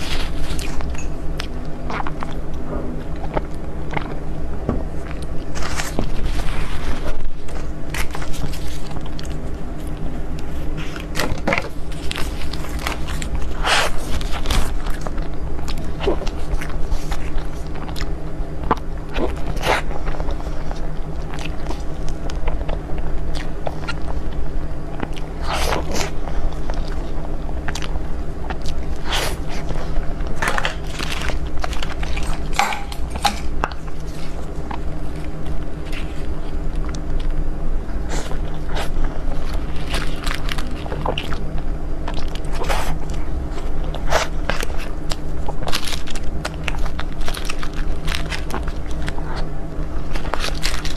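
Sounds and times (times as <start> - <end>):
chewing food: 0.0 - 50.9
steady low hum: 0.0 - 50.9.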